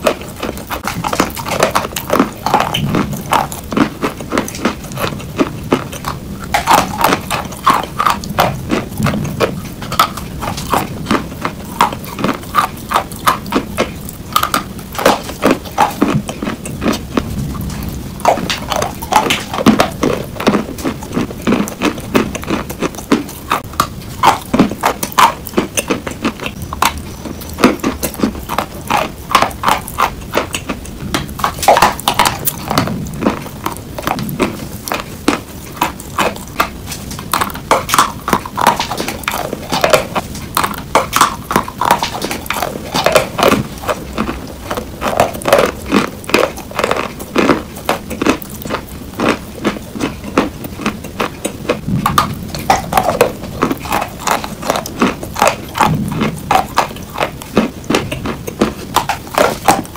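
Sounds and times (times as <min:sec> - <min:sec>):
chalk being chewed: 0:00.0 - 0:59.9.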